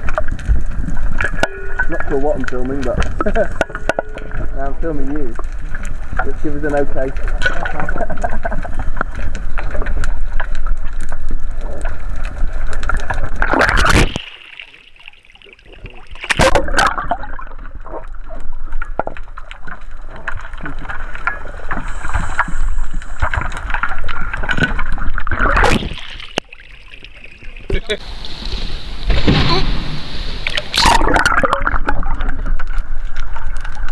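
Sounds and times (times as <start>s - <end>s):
water sloshing and splashing: 0.0s - 33.9s.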